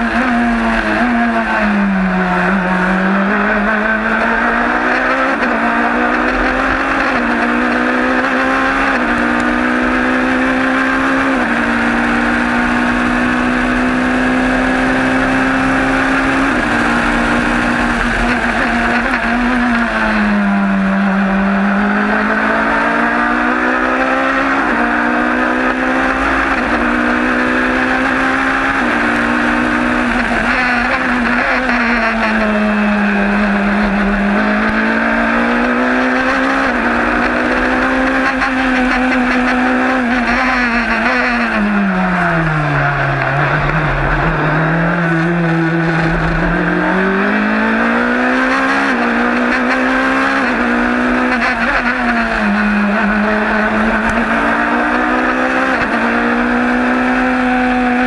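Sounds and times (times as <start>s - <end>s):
race car engine revving: 0.0s - 58.0s
wind and road noise: 0.0s - 58.0s.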